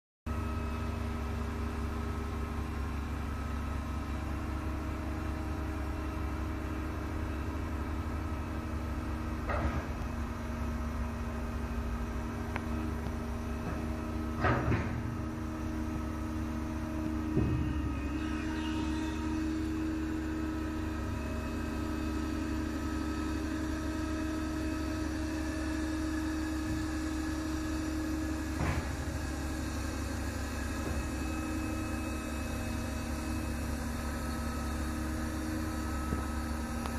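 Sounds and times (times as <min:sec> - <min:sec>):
crane engine humming: 0:00.3 - 0:36.9.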